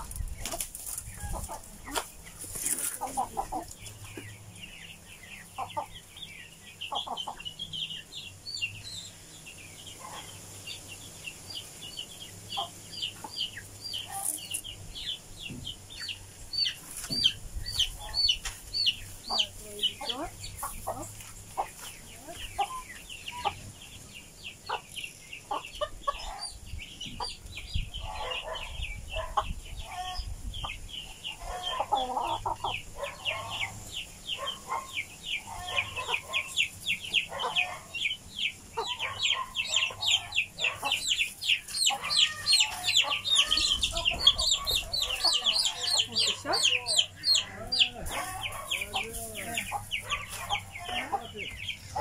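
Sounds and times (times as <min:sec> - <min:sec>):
hen clucking: 0:00.0 - 0:08.2, 0:11.6 - 0:52.0
chicks peeping: 0:00.0 - 0:52.0.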